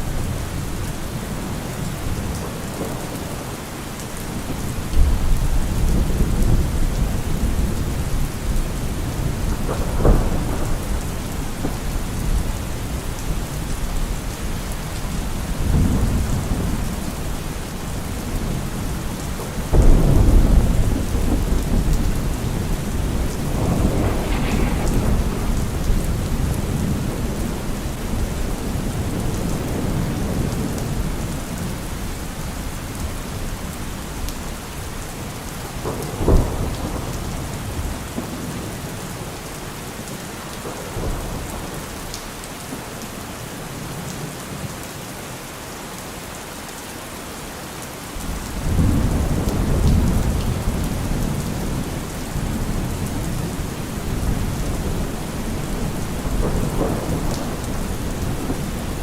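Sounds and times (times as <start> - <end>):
thunder rumbling and cracking: 0.0 - 42.1, 48.2 - 59.0
heavy rain on a car roof: 0.0 - 59.0.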